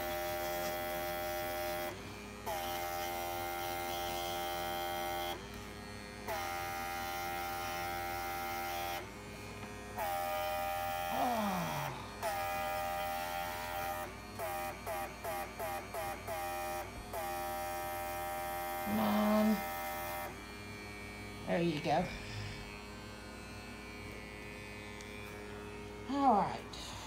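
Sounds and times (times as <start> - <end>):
compressor motor buzzing: 0.0 - 27.0.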